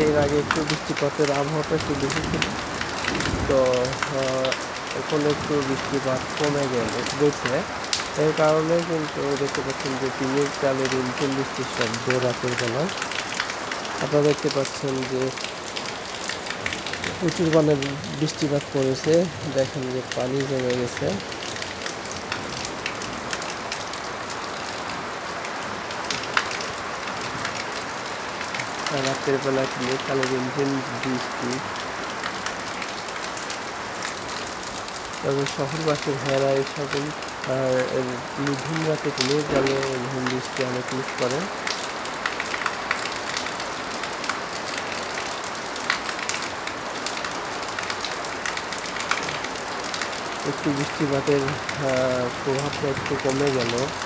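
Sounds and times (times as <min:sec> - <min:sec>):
rain on a tin roof: 0:00.0 - 0:54.0
water pouring off roof edge: 0:00.0 - 0:54.0.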